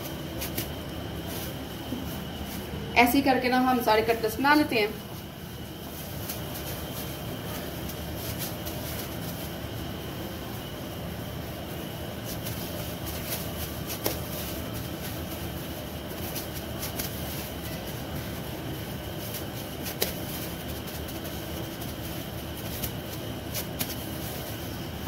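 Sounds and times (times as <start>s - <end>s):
mechanical hum: 0.0s - 25.0s
plastic gloves crinkling: 0.0s - 25.0s.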